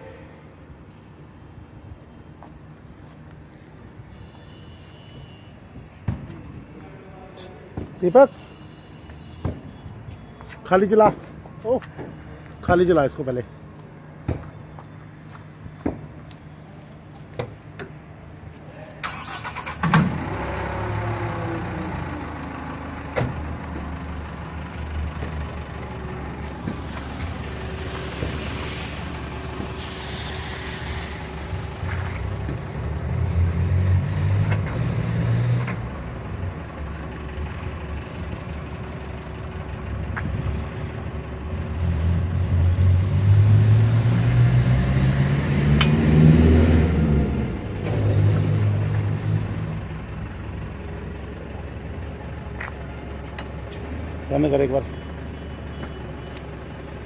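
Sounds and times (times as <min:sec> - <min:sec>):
tow truck engine running: 0:09.6 - 0:44.1, 0:45.3 - 0:57.0.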